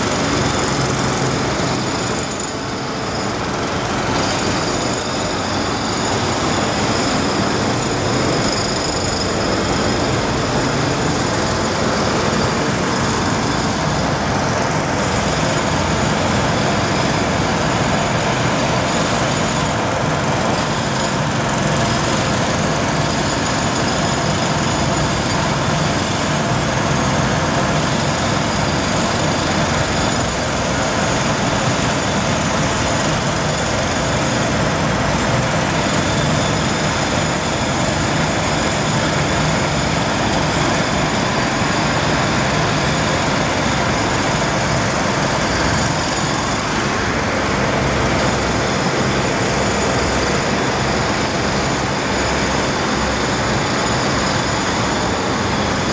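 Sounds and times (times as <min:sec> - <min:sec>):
construction machinery roar: 0:00.0 - 0:55.9.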